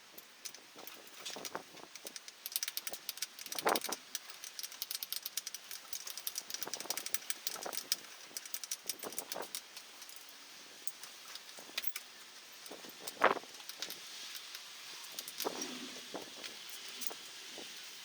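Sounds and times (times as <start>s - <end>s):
metal tools clinking and rattling: 0.2s - 10.3s, 10.9s - 17.3s.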